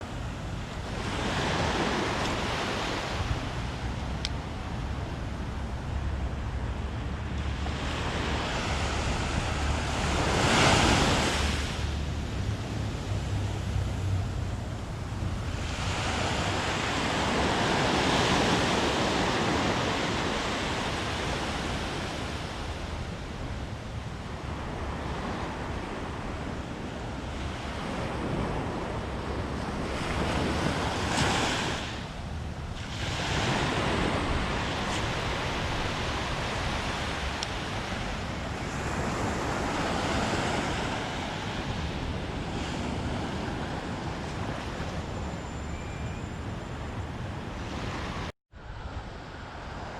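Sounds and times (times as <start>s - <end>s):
sea waves breaking on shore: 0.0s - 45.2s
wind rumbling on microphone: 0.0s - 49.9s.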